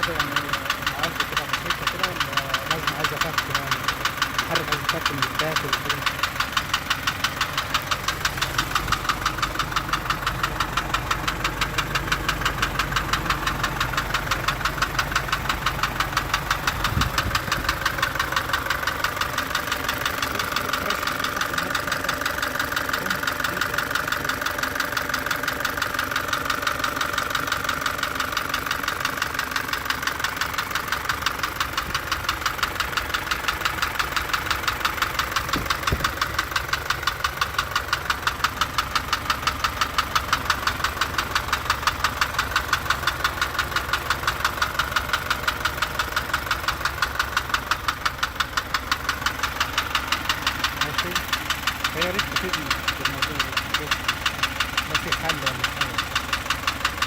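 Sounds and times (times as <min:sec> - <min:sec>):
truck engine knocking: 0:00.0 - 0:57.0.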